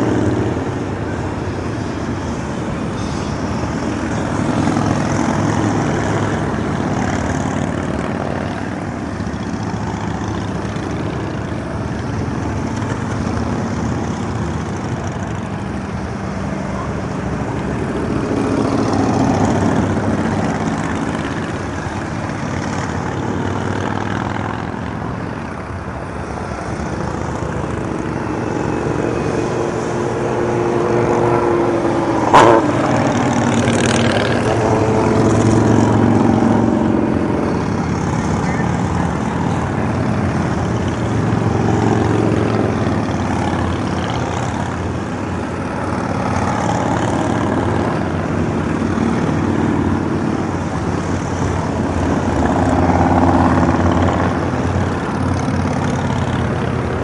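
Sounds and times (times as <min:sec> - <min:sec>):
motorcycles riding past: 0:00.0 - 0:57.0.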